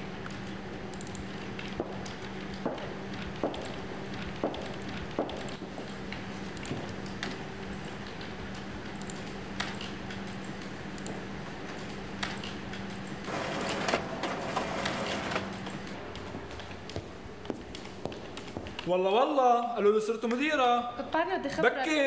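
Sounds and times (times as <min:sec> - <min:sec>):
low room hum: 0:00.0 - 0:22.0
printer whirring and clatter: 0:00.2 - 0:18.8.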